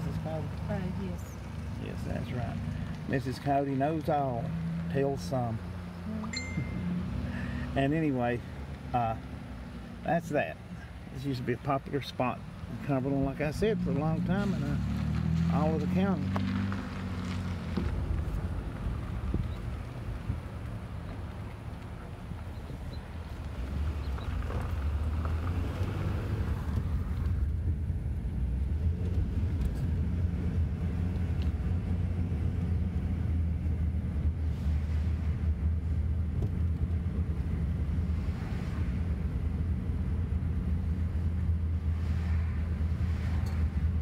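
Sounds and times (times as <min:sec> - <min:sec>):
engine and road rumble: 0:00.0 - 0:44.0.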